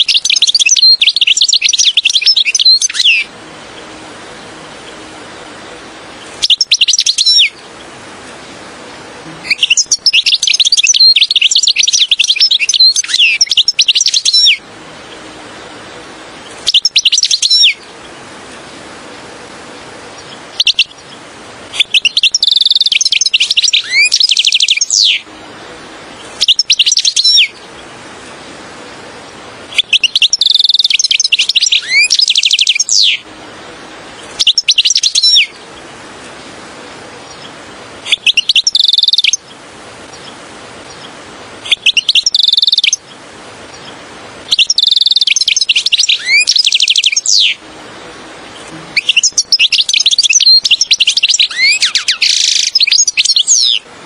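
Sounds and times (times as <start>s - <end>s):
bird twittering song: 0.0s - 25.3s, 26.1s - 33.3s, 34.1s - 47.6s, 48.5s - 53.9s
faint hiss: 0.0s - 54.0s.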